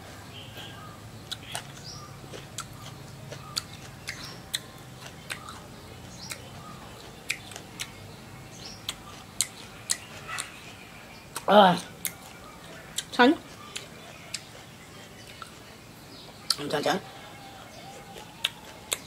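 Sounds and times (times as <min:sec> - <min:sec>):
crunchy chewing: 0:00.6 - 0:19.0.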